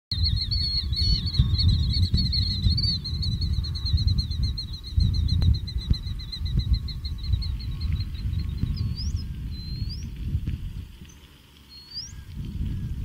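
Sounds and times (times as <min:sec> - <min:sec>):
wind rumble on microphone: 0:00.1 - 0:13.0.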